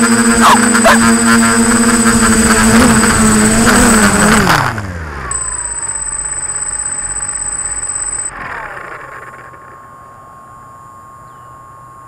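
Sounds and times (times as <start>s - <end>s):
drone propellers buzzing: 0.0s - 10.3s
thin high whine: 0.0s - 12.0s.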